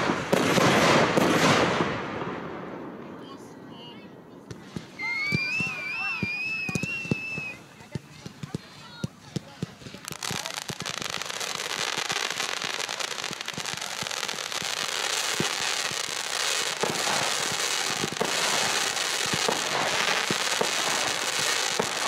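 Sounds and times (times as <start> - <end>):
fireworks crackling hiss: 0.0 - 2.4, 4.5 - 22.0
fireworks pops and shots: 0.0 - 3.4, 4.3 - 22.0.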